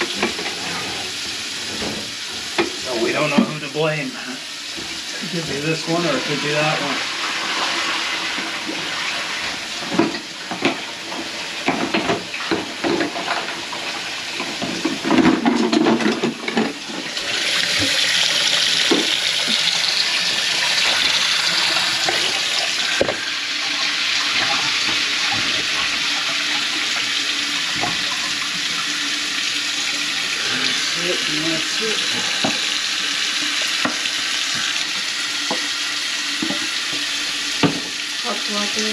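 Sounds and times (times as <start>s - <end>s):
faucet running into steel sink: 0.0s - 38.9s.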